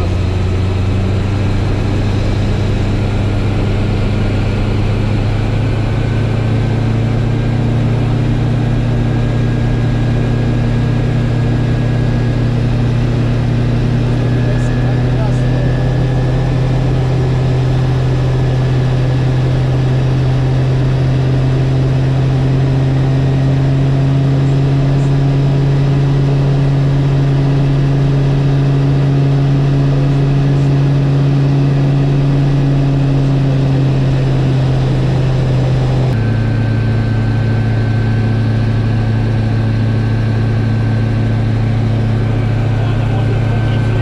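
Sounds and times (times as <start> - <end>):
aircraft engine and propeller: 0.0 - 44.0.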